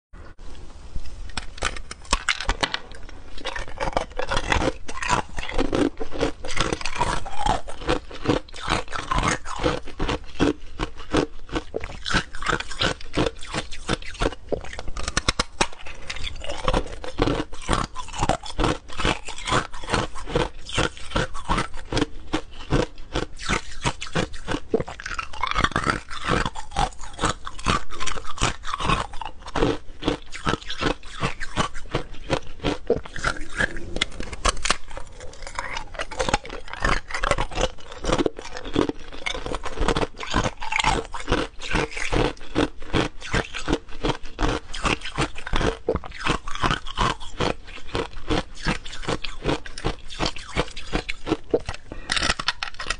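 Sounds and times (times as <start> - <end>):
ice being chewed crunching: 1.3 - 52.9.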